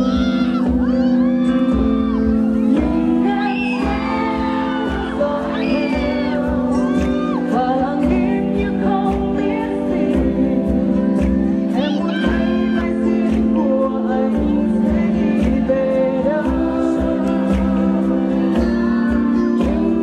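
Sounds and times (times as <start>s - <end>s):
backing music with beat: 0.0s - 20.0s
woman singing into microphone: 0.0s - 20.0s.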